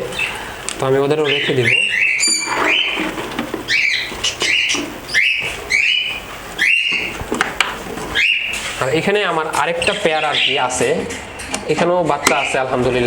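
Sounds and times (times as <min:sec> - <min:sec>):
parrots calling: 0:00.0 - 0:13.0.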